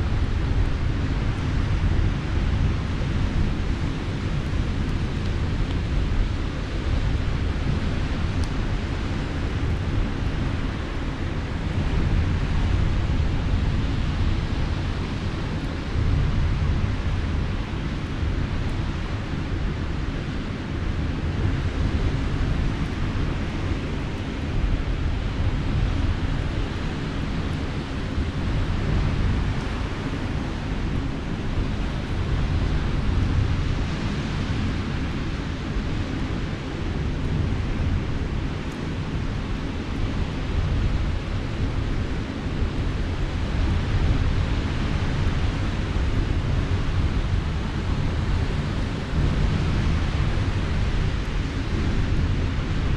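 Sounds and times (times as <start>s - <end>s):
waves rumbling: 0.0s - 52.9s
wind buffeting microphone: 0.0s - 52.9s.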